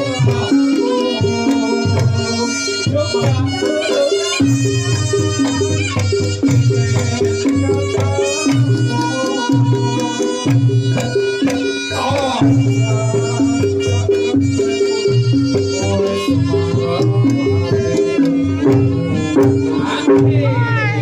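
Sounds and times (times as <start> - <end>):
drum strokes: 0.0 - 21.0
reedy melody: 0.0 - 21.0.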